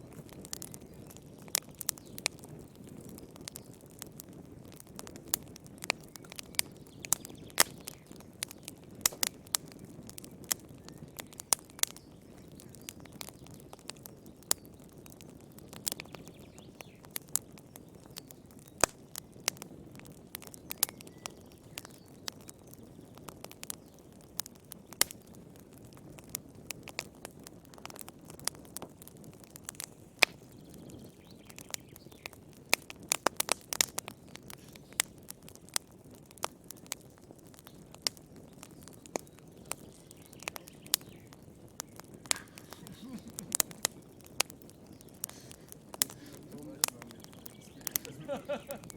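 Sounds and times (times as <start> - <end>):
low rush of flame: 0.0 - 20.8, 22.3 - 48.9
fire crackling and popping: 0.0 - 48.9.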